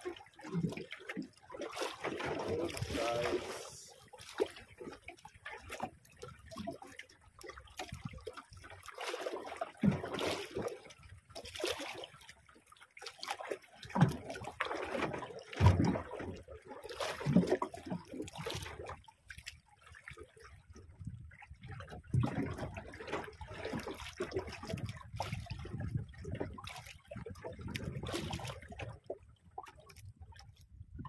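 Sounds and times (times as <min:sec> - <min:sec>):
water splashing against boat hull: 0:00.0 - 0:31.0.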